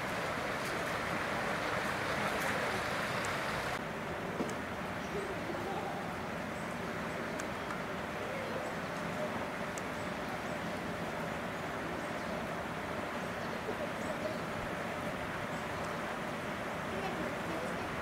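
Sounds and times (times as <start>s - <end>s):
murmur of distant voices: 0.0s - 18.0s.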